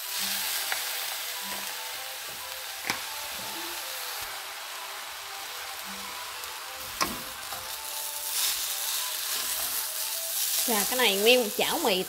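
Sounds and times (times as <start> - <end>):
noodles sizzling in a wok: 0.0 - 12.0.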